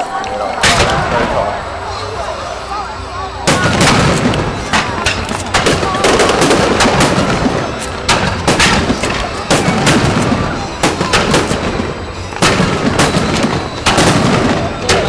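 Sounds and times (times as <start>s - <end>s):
fireworks crackling: 0.0s - 15.0s
fireworks bangs: 0.6s - 2.2s, 3.4s - 15.0s.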